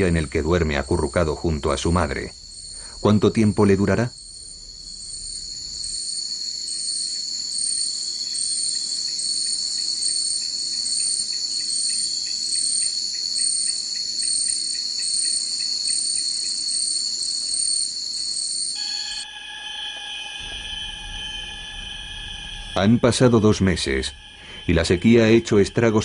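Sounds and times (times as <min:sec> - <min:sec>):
high-pitched insect trilling: 0:00.0 - 0:26.0
insect chirp: 0:00.0 - 0:26.0
low steady insect buzzing: 0:00.0 - 0:26.0.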